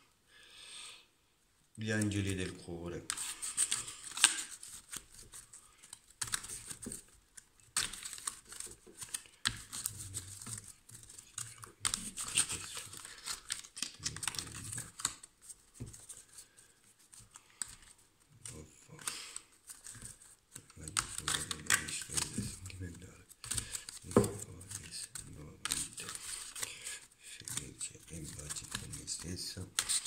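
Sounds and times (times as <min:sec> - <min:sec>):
cards being shuffled: 0:01.9 - 0:30.0.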